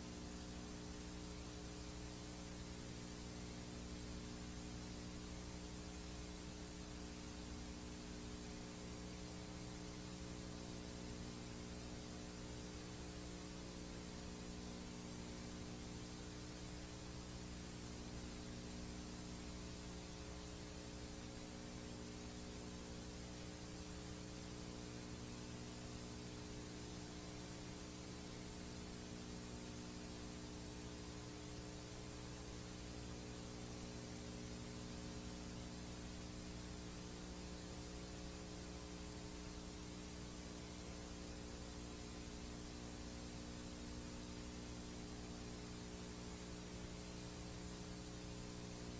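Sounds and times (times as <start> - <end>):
low electrical hum: 0.0 - 48.9
tape hiss: 0.0 - 48.9.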